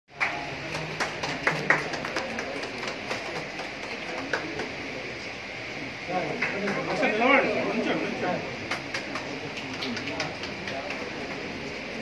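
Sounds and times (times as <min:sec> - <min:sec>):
steady room noise: 0:00.1 - 0:12.0.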